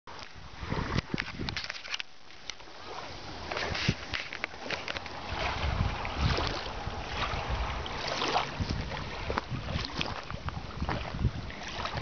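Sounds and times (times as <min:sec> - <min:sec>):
wind buffeting microphone: 0:00.1 - 0:02.0, 0:02.8 - 0:12.0.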